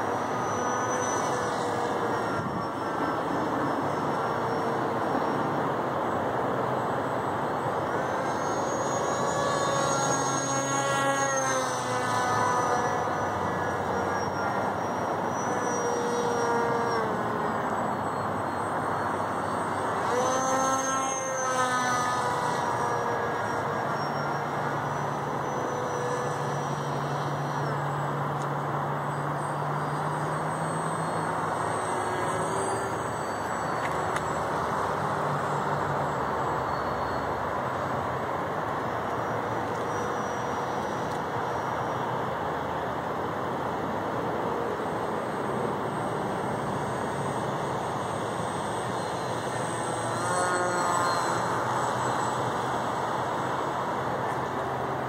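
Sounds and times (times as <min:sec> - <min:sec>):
electric model plane motor whining: 0:00.0 - 0:55.0.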